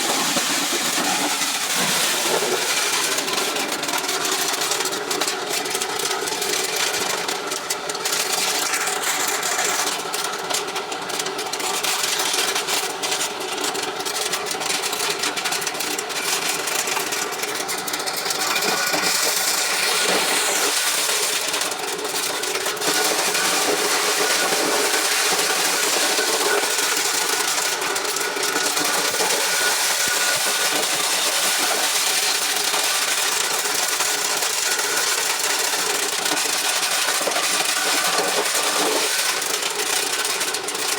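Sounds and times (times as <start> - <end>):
corn-shelling machine running: 0.0 - 40.9.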